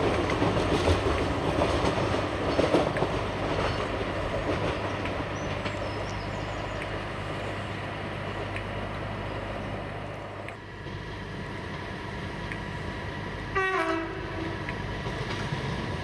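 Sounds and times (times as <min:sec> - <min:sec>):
train wheel and rail noise: 0:00.0 - 0:16.0.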